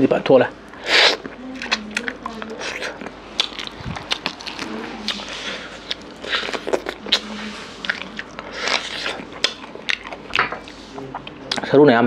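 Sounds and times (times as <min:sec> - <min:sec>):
chewing with wet mouth clicks: 0:01.0 - 0:07.2, 0:07.8 - 0:11.8.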